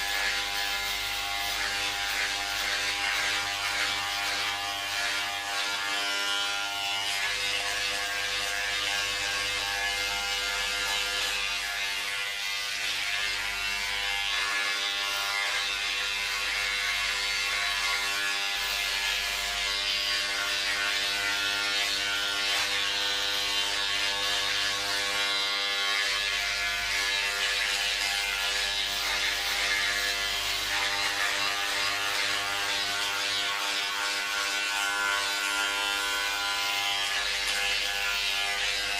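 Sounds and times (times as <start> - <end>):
electric hair clipper buzzing: 0.0 - 38.9.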